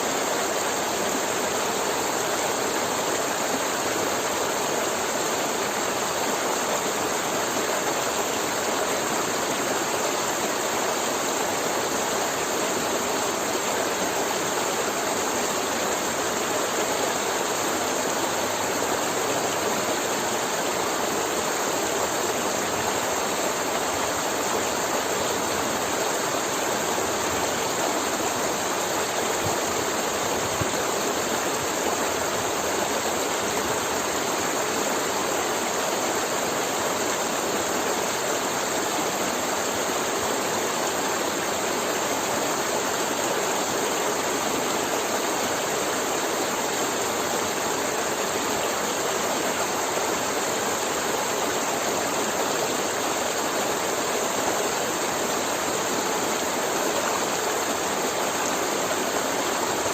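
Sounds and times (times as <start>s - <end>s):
river water gurgling over rocks: 0.0s - 59.9s.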